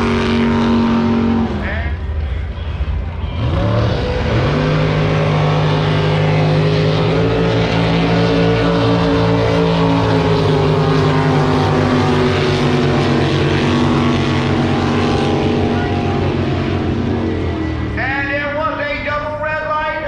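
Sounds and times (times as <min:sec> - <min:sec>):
boat engine revving: 0:00.0 - 0:20.0.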